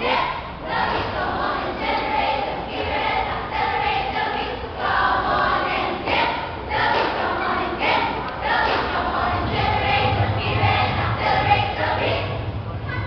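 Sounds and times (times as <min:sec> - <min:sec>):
young voices chanting a cheer: 0:00.0 - 0:13.0.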